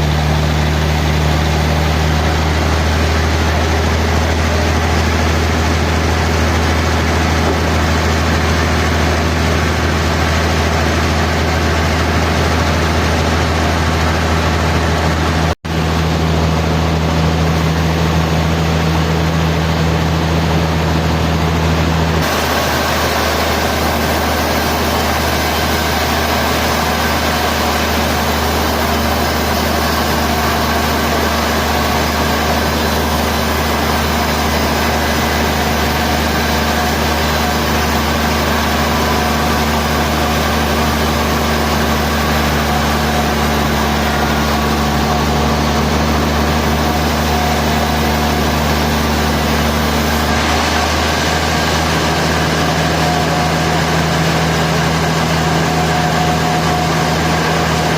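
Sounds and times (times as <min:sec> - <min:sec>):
sawmill machinery humming: 0:00.0 - 0:57.9.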